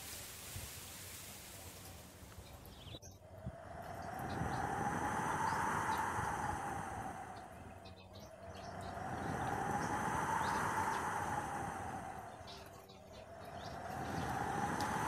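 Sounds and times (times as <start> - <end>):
wind gusting through trees: 0.0 - 15.0.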